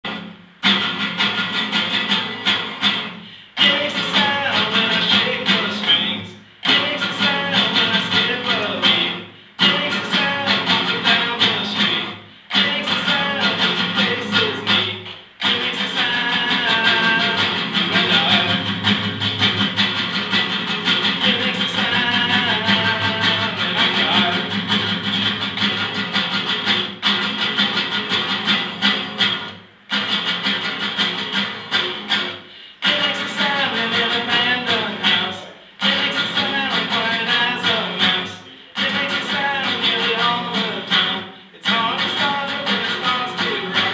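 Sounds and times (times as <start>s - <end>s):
acoustic guitar plucking: 0.0s - 43.9s.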